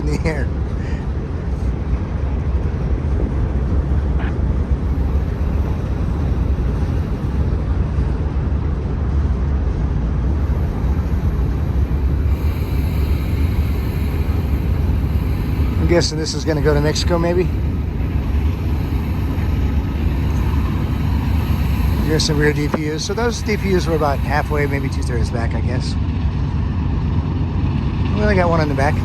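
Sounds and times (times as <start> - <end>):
freight train wheels rumbling on rails: 0.0 - 29.0.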